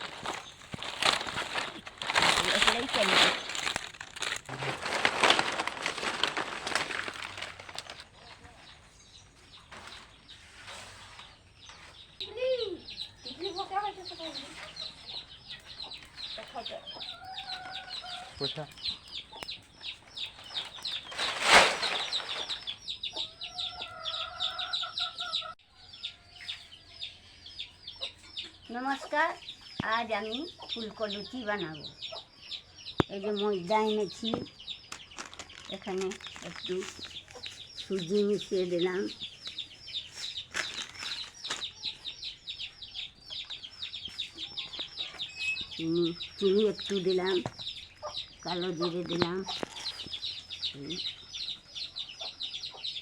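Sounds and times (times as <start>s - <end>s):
chickens peeping: 0.0s - 53.0s.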